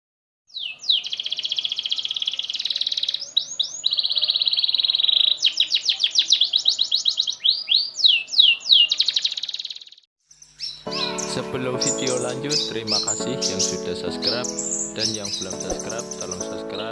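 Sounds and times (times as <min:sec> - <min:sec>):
canary singing trills: 0:00.5 - 0:16.9.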